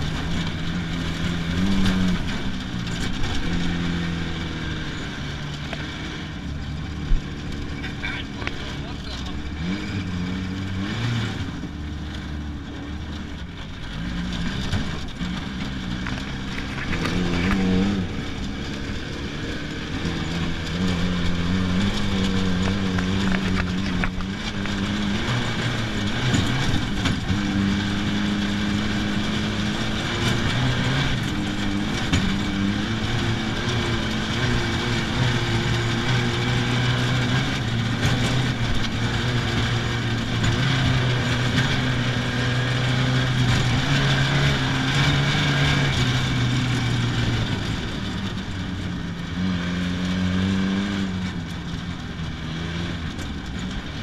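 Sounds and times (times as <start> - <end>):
race car engine revving through gears: 0.0 - 54.0
road and wind noise: 0.0 - 54.0.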